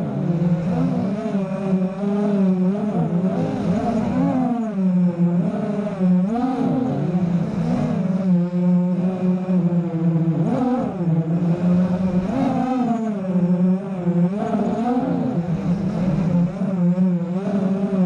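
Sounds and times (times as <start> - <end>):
quadcopter motors buzzing whine: 0.0 - 18.0.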